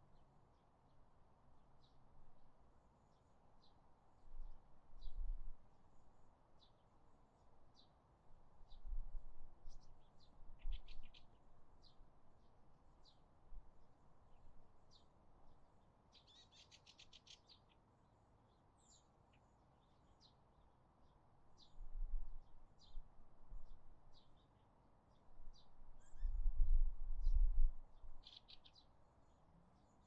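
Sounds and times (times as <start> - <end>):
small songbirds chirping: 1.6 - 30.0.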